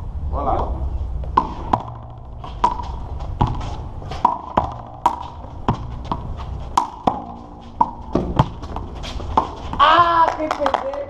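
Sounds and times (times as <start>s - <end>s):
low steady rumble: 0.0s - 10.2s
handball smacking with echo: 1.3s - 3.6s, 4.2s - 11.0s.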